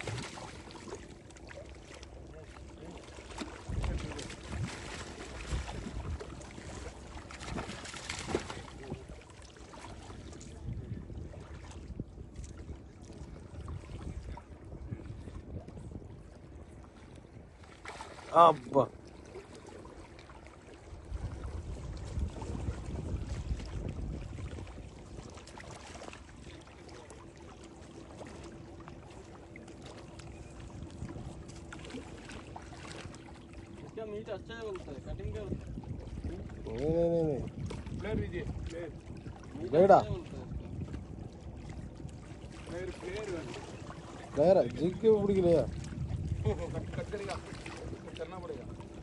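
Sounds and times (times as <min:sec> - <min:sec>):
wind on microphone: 0:03.4 - 0:17.8, 0:20.6 - 0:27.2, 0:28.0 - 0:49.0.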